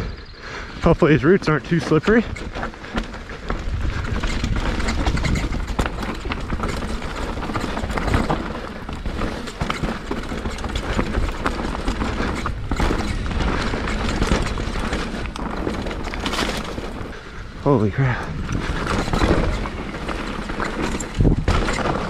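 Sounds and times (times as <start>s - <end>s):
mountain bike rattling: 0.0s - 22.0s
wind rumble on microphone: 1.0s - 22.0s.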